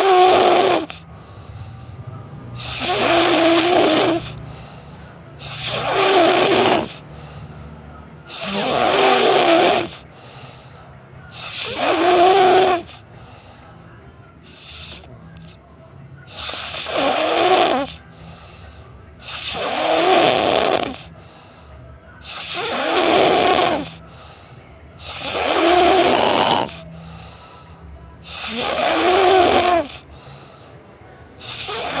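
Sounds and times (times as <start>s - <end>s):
loud rattling snores: 0.0s - 13.7s, 14.4s - 15.6s, 16.2s - 21.6s, 22.2s - 27.6s, 28.2s - 32.0s
quiet breathing: 0.0s - 32.0s.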